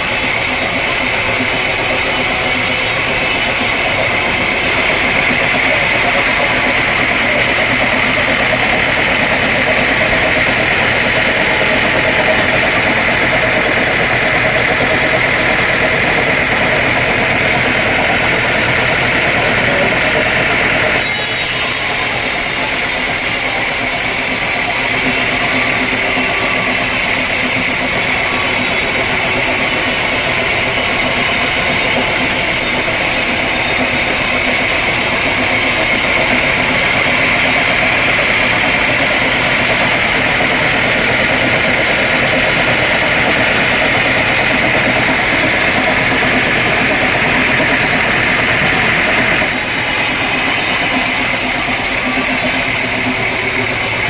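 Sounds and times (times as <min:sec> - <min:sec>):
sawmill saw droning with high whine: 0:00.0 - 0:54.0.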